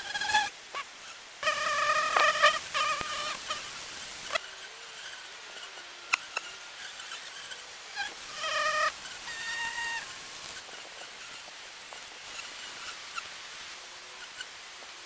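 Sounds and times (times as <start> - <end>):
high squeaky insect tones: 0.0 - 13.3.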